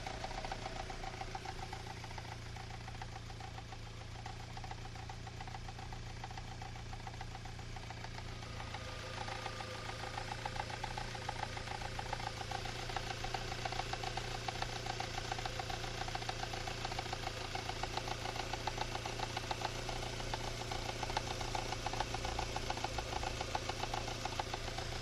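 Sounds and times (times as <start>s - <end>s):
car engine idling with knock: 0.0s - 25.0s.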